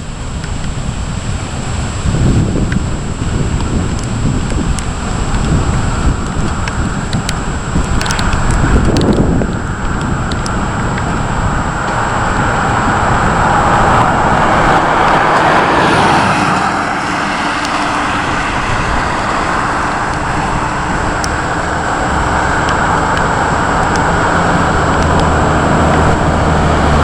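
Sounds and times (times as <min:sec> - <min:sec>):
low rumble: 0:00.0 - 0:27.0
rushing storm noise: 0:00.0 - 0:27.0.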